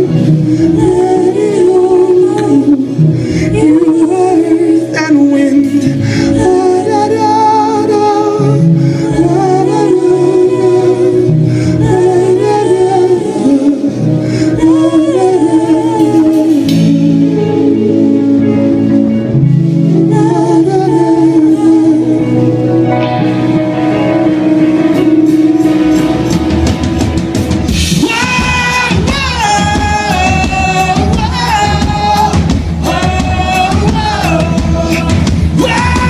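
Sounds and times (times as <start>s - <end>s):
electric guitar: 0.0s - 36.0s
keyboards: 0.0s - 36.0s
live band playing: 0.0s - 36.0s
person singing: 0.0s - 36.0s.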